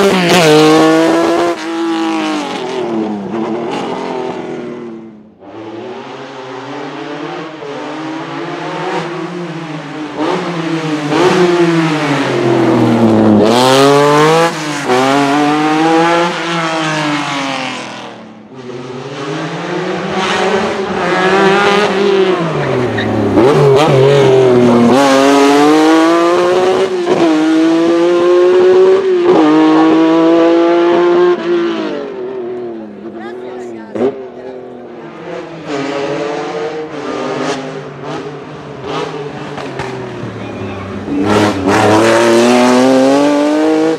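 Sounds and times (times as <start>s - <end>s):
rally car accelerating hard: 0.0s - 33.3s, 33.9s - 43.9s.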